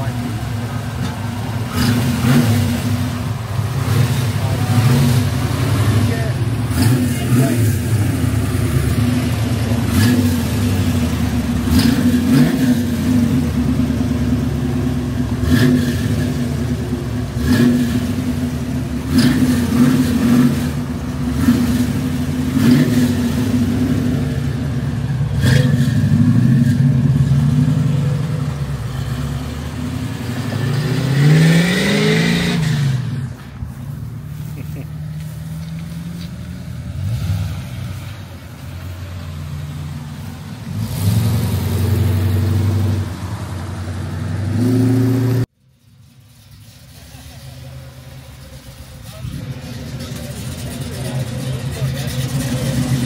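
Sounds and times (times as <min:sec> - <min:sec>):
car engine running: 0:00.0 - 0:37.1, 0:45.0 - 0:53.0.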